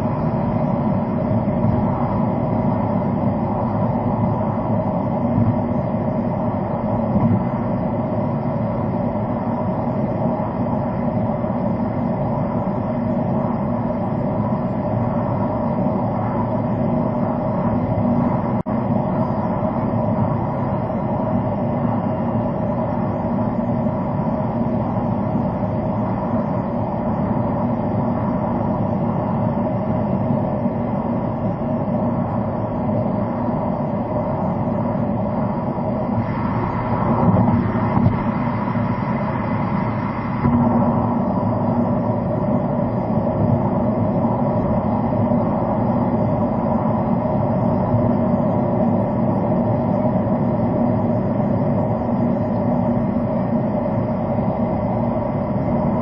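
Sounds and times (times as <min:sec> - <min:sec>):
car tyre and engine noise: 0:00.0 - 0:56.0.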